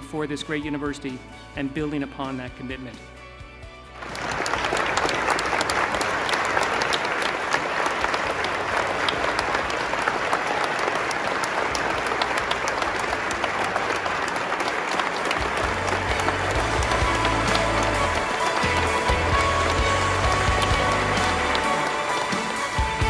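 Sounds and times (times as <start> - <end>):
audience applauding: 3.9 - 23.0.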